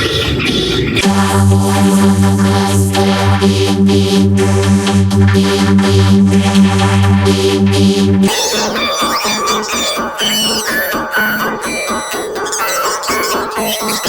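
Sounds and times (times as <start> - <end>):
electronic drone with heavy bass: 0.0 - 14.0.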